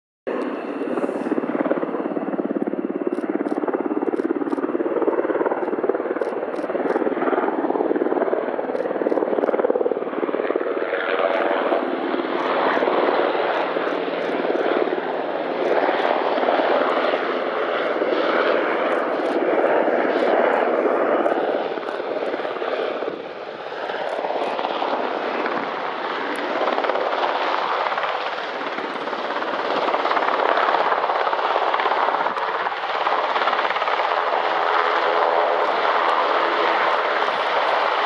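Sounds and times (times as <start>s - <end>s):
helicopter rotor beat: 0.3s - 38.0s.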